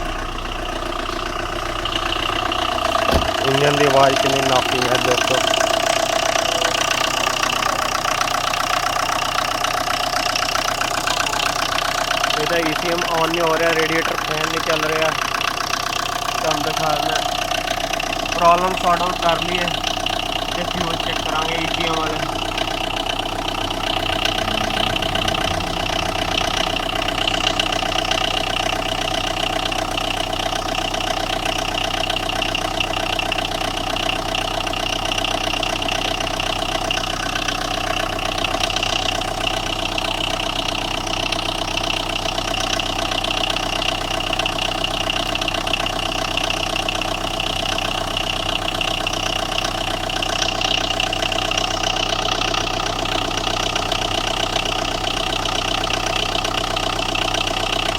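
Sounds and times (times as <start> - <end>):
diesel engine idling with knocking: 0.0 - 57.9.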